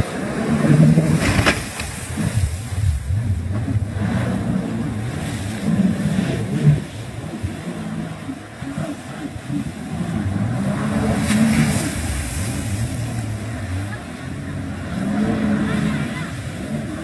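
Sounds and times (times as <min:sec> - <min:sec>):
jet ski engines revving: 0:00.0 - 0:17.0.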